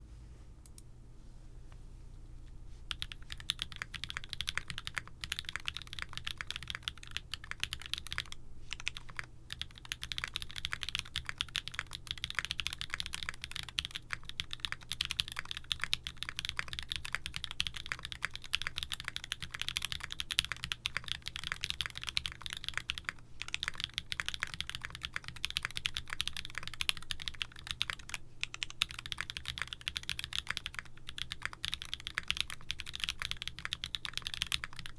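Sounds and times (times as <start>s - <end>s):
mechanical keyboard typing: 2.9s - 34.9s.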